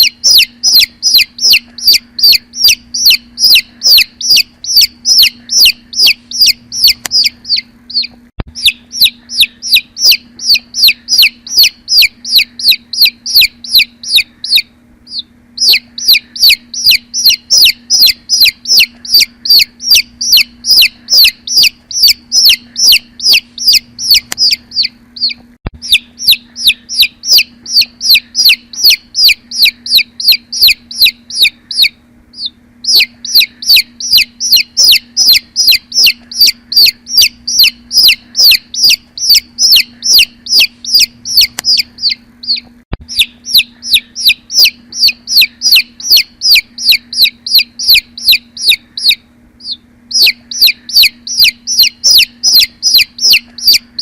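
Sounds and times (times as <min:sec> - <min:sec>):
baby chicks peeping: 0:00.0 - 0:54.0.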